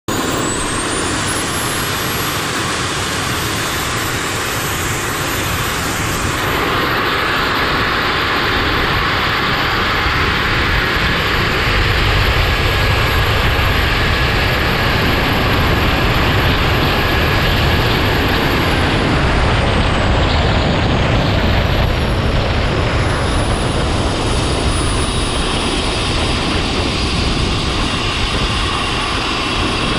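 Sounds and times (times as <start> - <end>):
rushing wind: 0.1 - 29.9
turbine whine: 0.1 - 29.9.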